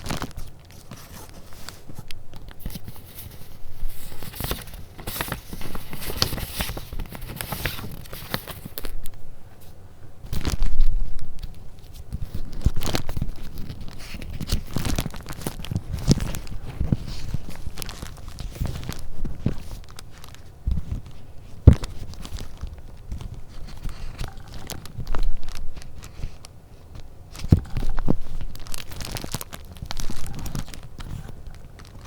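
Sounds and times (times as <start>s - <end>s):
paper crinkling and rustling: 0.0s - 32.0s.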